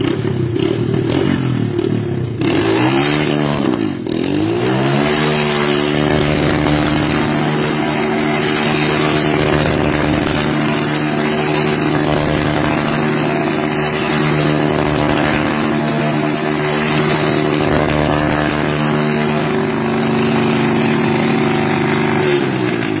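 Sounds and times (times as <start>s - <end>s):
motorcycle engine revving high: 0.0s - 23.0s.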